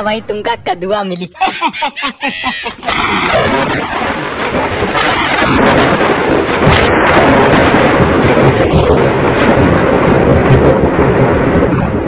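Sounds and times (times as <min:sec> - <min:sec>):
thunder rumble: 0:00.0 - 0:12.0.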